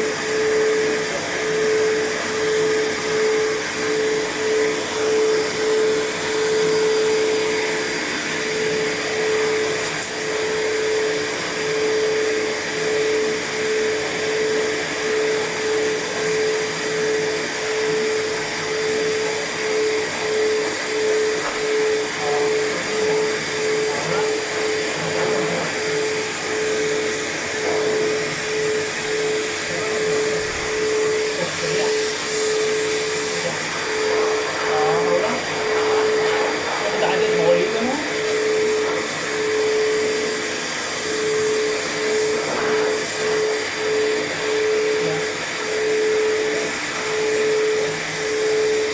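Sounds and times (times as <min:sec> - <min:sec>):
pet hair dryer blowing: 0:00.0 - 0:48.9.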